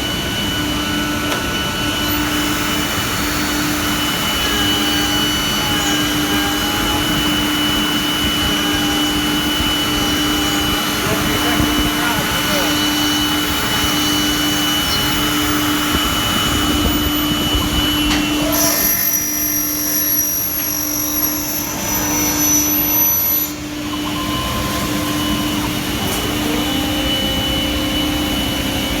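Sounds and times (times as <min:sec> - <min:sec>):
high whine: 0:00.0 - 0:29.0
workshop machinery humming: 0:00.0 - 0:29.0.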